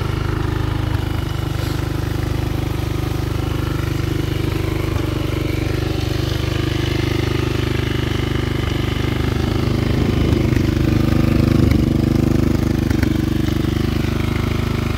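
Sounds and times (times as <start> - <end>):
atv engine idling: 0.0 - 14.9.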